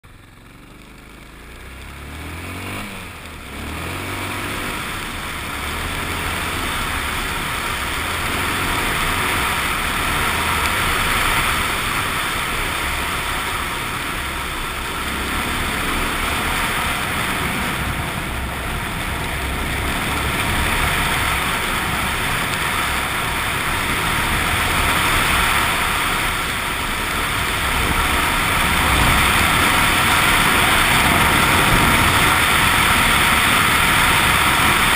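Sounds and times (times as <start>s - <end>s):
single-cylinder motorcycle engine: 0.0s - 34.9s
wind and road noise: 0.0s - 34.9s.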